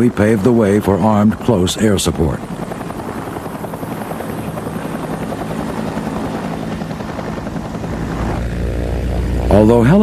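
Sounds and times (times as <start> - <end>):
helicopter rotors chopping: 0.0 - 10.0.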